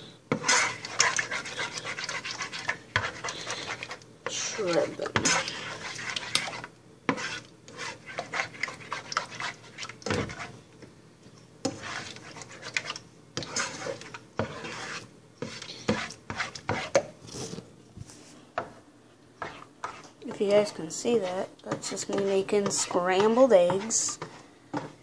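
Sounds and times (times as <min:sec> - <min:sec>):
utensil scraping frying pan: 0:00.3 - 0:10.6, 0:11.6 - 0:17.6, 0:19.4 - 0:25.0.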